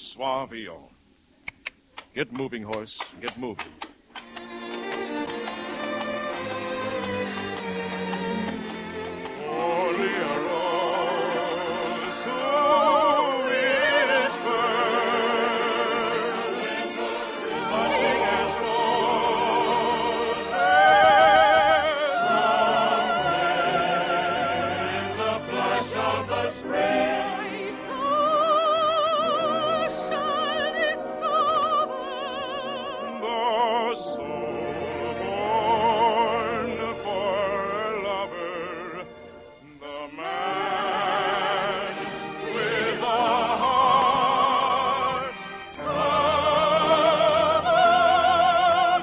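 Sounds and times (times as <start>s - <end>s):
operetta singing with orchestra: 4.2s - 49.0s.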